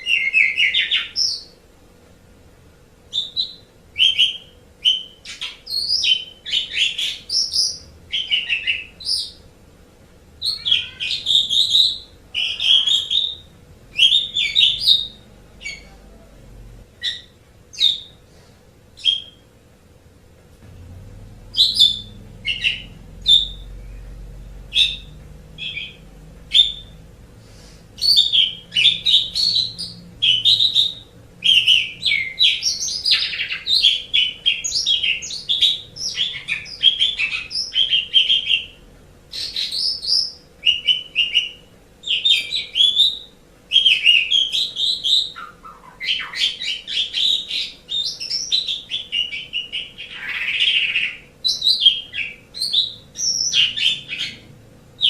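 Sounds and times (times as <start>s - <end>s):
starling chirps and whistles: 0.0s - 1.6s, 3.1s - 9.4s, 10.4s - 15.9s, 17.0s - 18.2s, 19.0s - 19.5s, 21.5s - 27.1s, 28.0s - 54.5s.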